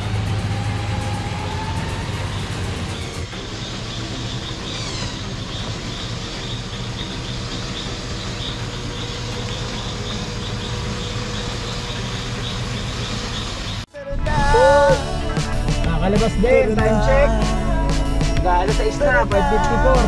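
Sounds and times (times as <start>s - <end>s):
road noise: 0.0s - 20.0s
vehicle engine rumble: 0.0s - 20.0s.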